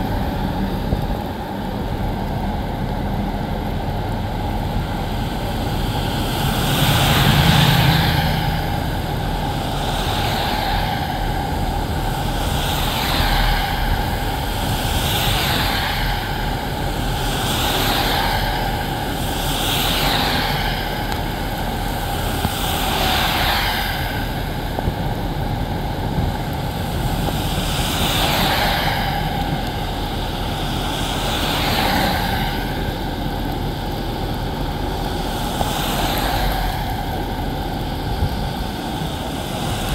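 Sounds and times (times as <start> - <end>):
traffic hiss on wet road: 0.0 - 39.9.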